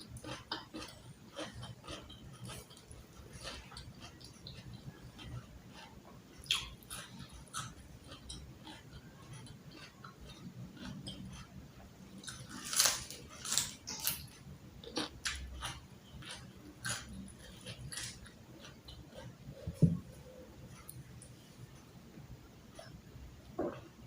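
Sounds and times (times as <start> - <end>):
crunching and chewing: 0.0 - 22.0.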